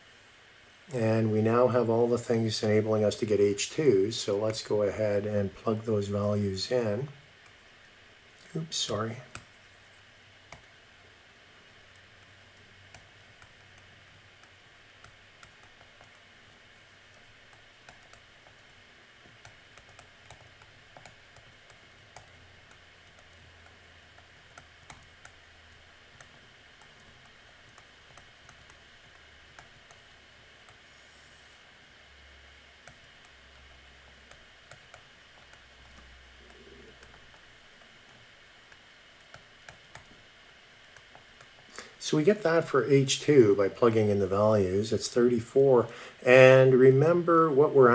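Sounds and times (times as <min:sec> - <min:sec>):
room hiss and hum: 0:00.0 - 0:47.9.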